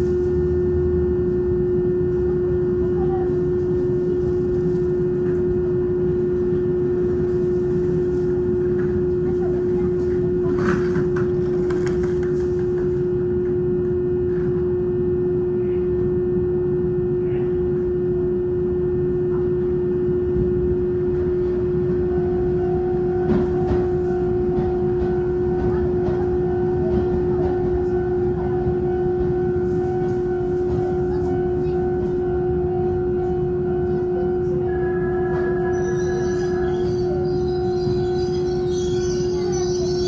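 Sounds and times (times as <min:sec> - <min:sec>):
electrical hum of train equipment: 0:00.0 - 0:40.0.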